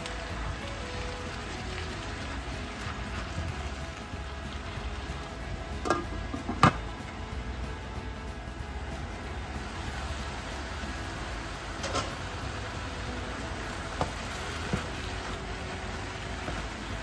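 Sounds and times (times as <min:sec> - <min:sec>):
steady low hum: 0:01.6 - 0:17.0.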